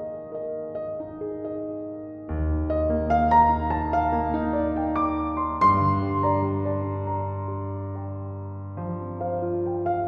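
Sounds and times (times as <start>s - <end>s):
gentle keyboard melody: 0.0s - 10.0s.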